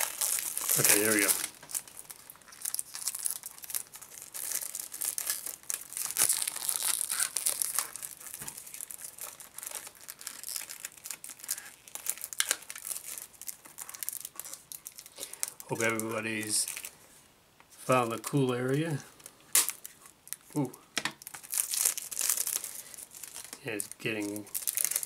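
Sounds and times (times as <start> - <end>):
plastic packaging crinkling: 0.0 - 17.0, 17.8 - 25.0.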